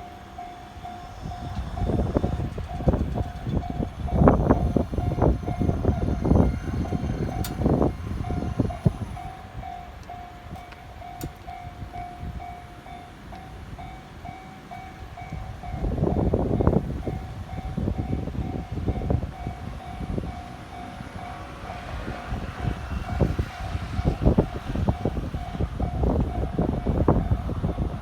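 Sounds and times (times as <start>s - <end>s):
electric train passing: 0.0s - 28.0s
level crossing alarm ringing: 0.0s - 28.0s
wheels clattering on rails: 0.0s - 28.0s.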